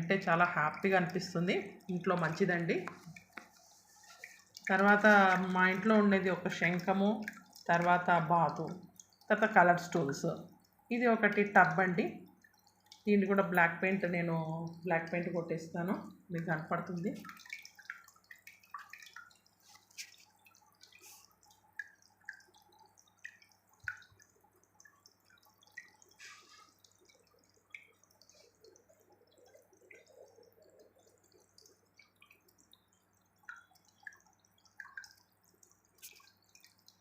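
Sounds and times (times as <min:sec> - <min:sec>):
fountain water dripping and trickling: 0:00.0 - 0:37.0.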